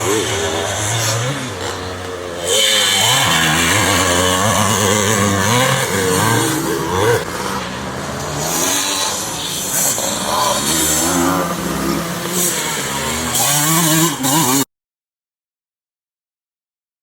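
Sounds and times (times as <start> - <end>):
motocross bike engines revving: 0.0 - 14.7.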